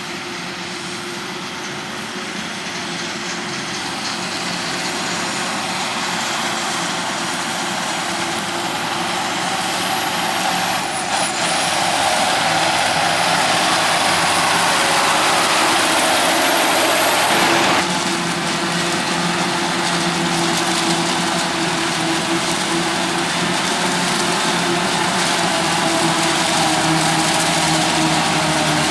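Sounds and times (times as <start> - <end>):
heavy farm machinery running: 0.0 - 28.9.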